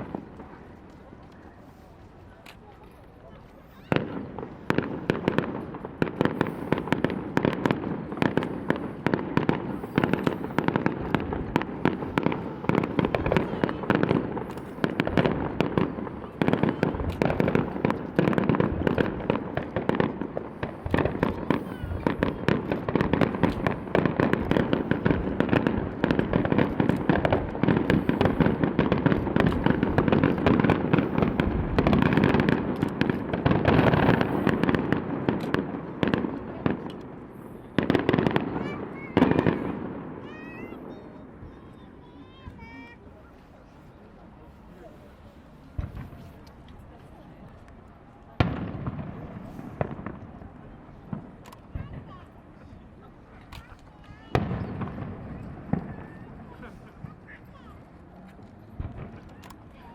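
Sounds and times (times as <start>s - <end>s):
fireworks bursts and crackling bangs: 0.0s - 59.9s.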